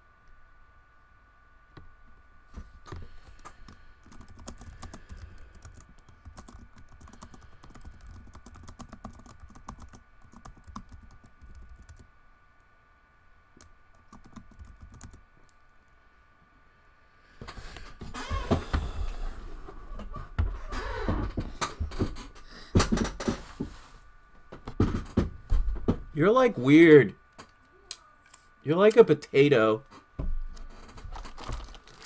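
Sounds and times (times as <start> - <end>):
faint high hum: 0.0 - 32.0.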